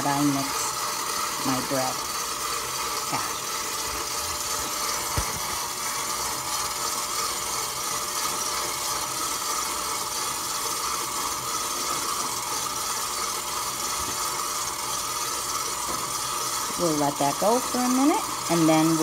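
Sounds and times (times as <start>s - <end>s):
stand mixer kneading dough: 0.0s - 19.0s.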